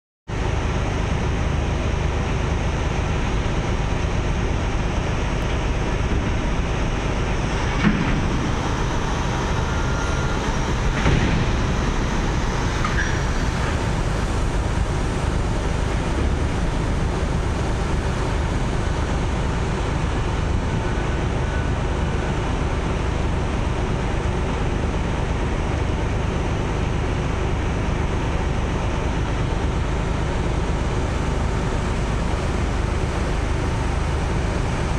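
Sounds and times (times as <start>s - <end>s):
boat engines rumbling: 0.3s - 34.9s
water wash: 0.4s - 34.9s.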